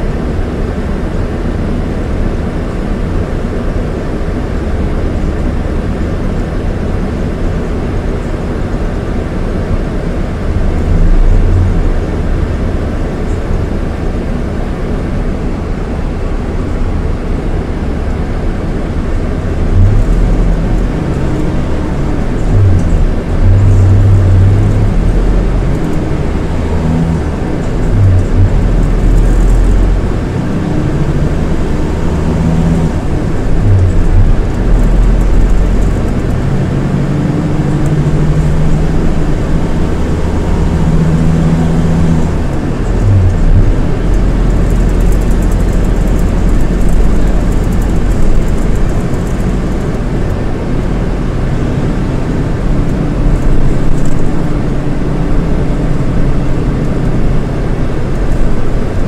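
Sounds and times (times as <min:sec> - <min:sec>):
diesel coach engine running: 0:00.0 - 0:59.0
road rumble: 0:00.0 - 0:59.0.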